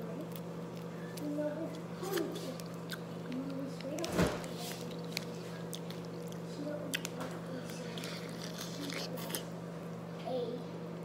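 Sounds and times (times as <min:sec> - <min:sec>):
steady low hum: 0:00.0 - 0:11.0
chewing: 0:00.2 - 0:09.6.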